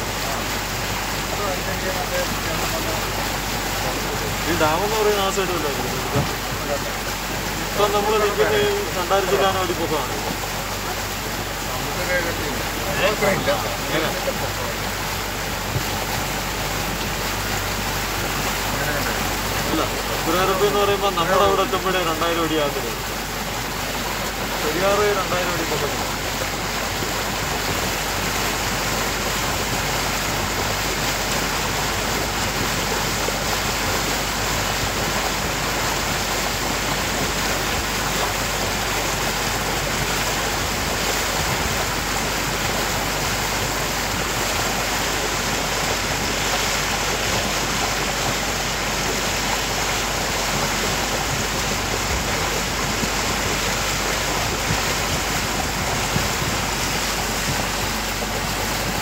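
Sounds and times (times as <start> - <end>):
low boat engine rumble: 0.0 - 59.0
water and wind rushing: 0.0 - 59.0.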